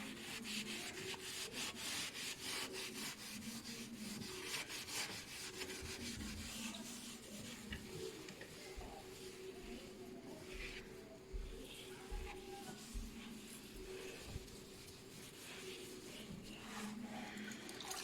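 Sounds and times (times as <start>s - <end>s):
wet sponge rubbing glass: 0.0s - 17.3s.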